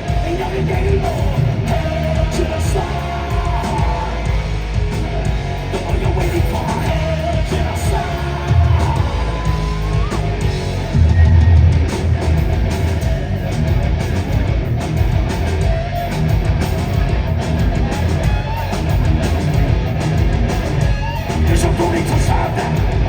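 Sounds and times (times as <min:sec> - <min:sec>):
heavy metal band playing: 0:00.0 - 0:23.0
lead guitar line: 0:00.0 - 0:23.0.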